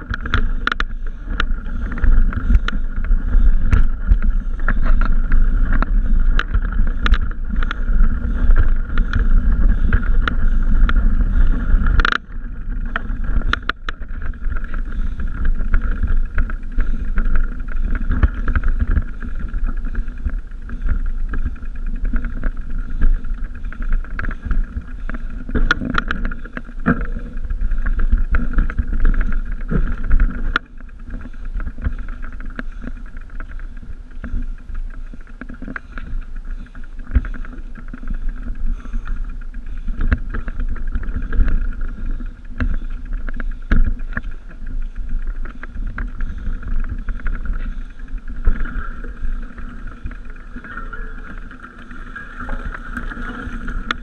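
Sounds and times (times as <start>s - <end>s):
bike clicks and rattles: 0.0s - 54.0s
low wind rumble: 0.0s - 54.0s.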